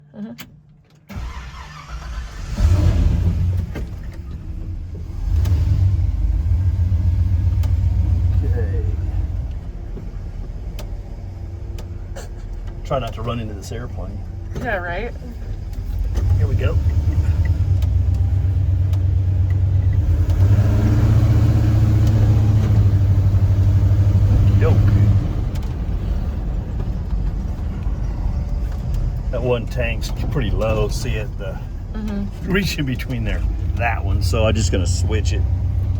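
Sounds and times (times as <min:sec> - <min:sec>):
truck engine starting and running: 0:00.0 - 0:35.9.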